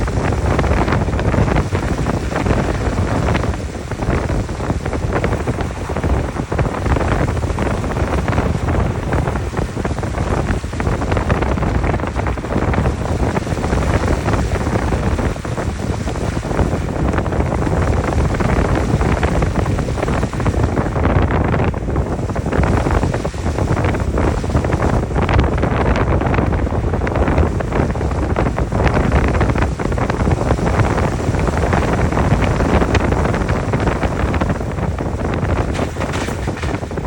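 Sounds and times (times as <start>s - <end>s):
low road rumble: 0.0s - 37.0s
tyres crackling over loose ground: 0.0s - 37.0s
wind noise: 0.0s - 37.0s.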